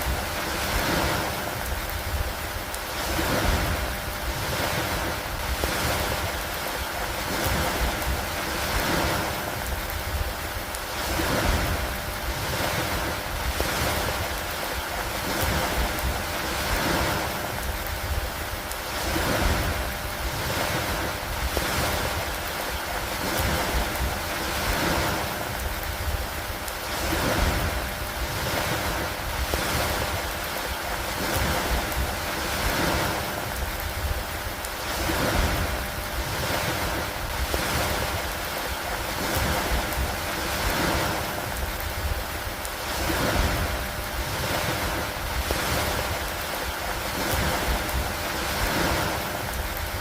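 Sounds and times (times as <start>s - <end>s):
steady rain hiss: 0.0s - 50.0s
wind: 0.0s - 50.0s.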